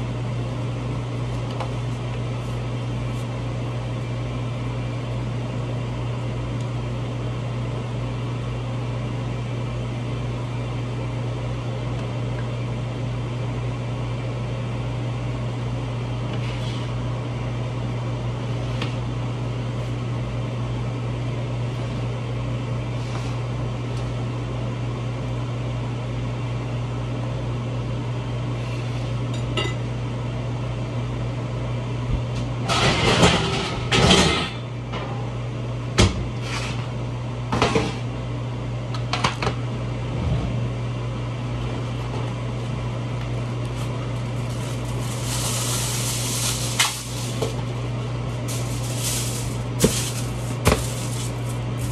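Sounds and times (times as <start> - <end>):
appliance fan hum: 0.0 - 51.9.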